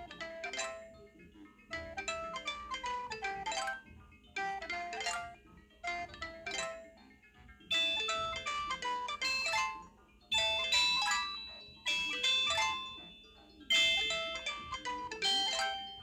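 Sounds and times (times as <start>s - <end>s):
polyphonic phone ringtone: 0.0s - 7.1s, 7.7s - 16.0s.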